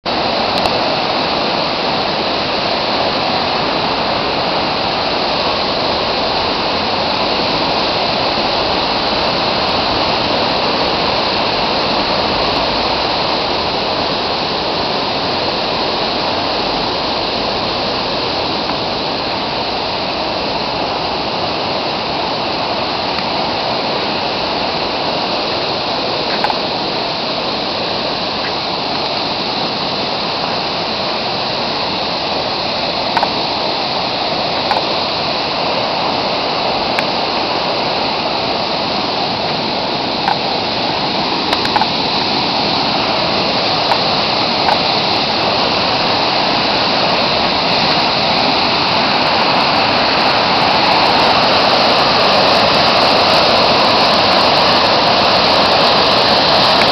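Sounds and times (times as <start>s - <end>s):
floodwater rushing: 0.0s - 56.9s.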